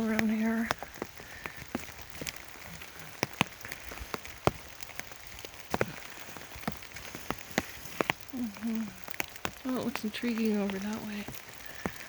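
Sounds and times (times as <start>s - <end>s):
rain hiss: 0.0s - 12.0s
raindrops tapping on umbrella: 0.0s - 12.0s.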